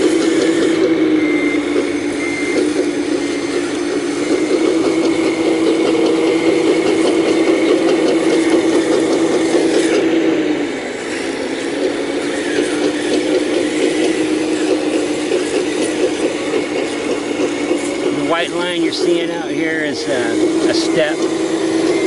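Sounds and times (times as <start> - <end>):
excavator running: 0.0 - 22.0.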